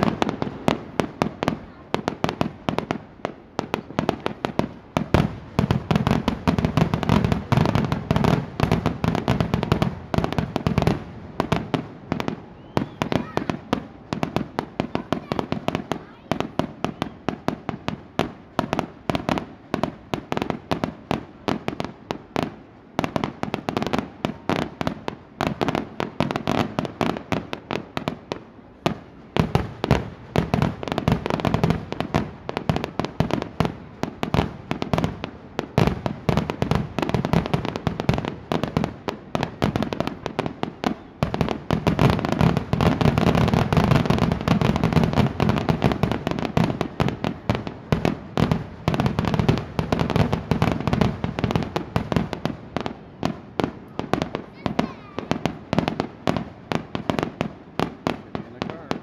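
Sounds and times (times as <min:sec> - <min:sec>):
fireworks bursts and bangs: 0:00.0 - 0:59.0.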